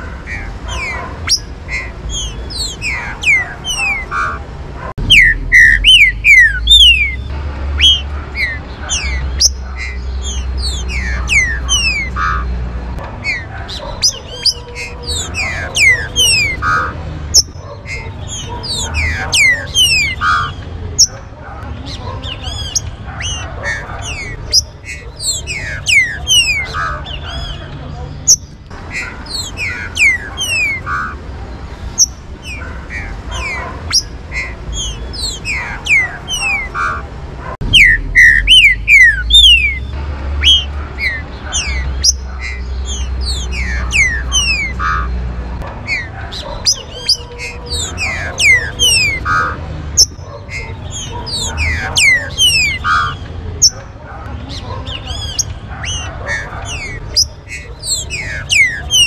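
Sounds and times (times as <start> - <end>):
birds whistling: 0.0 - 59.0.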